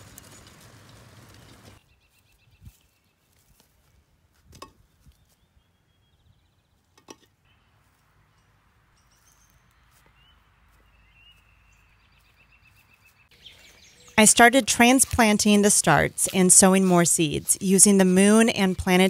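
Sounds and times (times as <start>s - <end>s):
faint birds chirping: 0.0s - 3.8s, 4.8s - 19.0s.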